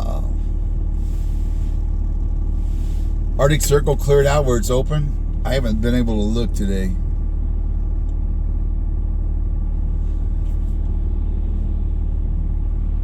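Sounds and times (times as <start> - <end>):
car engine and road noise: 0.0 - 13.0
faint constant hum: 0.0 - 13.0.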